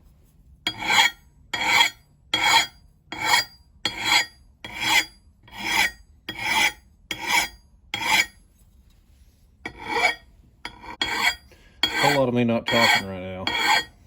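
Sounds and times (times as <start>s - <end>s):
file rasping on axe head: 0.7s - 8.4s, 9.7s - 14.0s.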